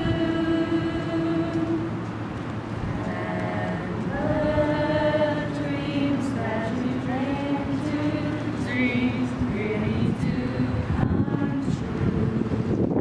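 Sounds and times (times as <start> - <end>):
low wind rumble: 0.0 - 13.0
women singing sustained notes: 0.0 - 13.0.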